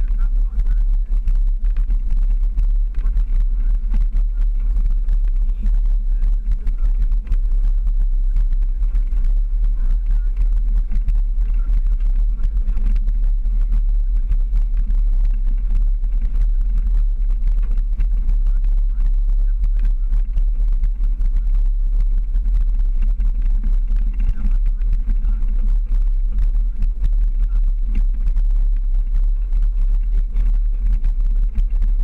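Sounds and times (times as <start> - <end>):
vehicle driving on gravel trail: 0.0 - 32.0.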